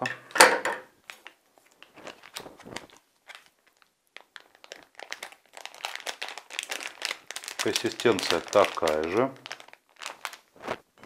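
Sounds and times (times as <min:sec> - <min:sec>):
plastic food bag crinkling: 0:01.0 - 0:11.0.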